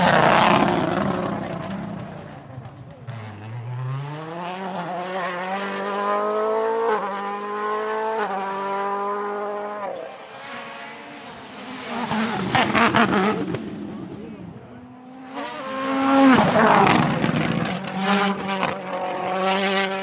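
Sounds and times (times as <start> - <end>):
turbocharged engine accelerating: 0.0 - 20.0.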